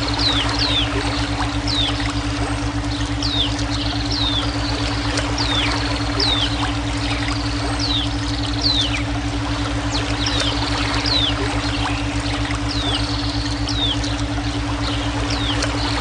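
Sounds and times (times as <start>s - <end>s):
flowing water: 0.0s - 16.0s
pulsing low hum: 0.0s - 16.0s.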